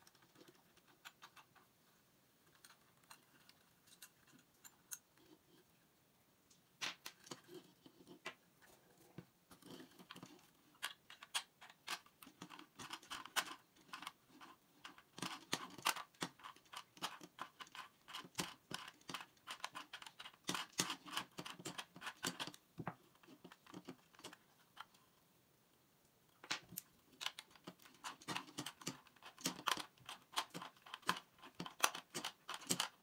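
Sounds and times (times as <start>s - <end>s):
small parts clicking and tapping: 0.0s - 1.7s, 2.4s - 5.4s, 6.5s - 8.8s, 9.5s - 25.0s, 26.4s - 33.0s.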